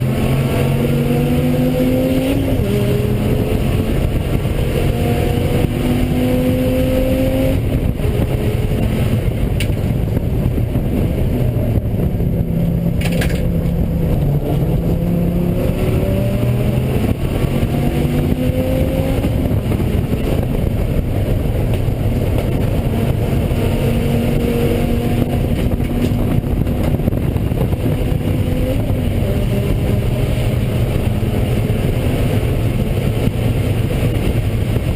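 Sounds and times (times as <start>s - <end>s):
sports car engine revving: 0.0s - 34.9s.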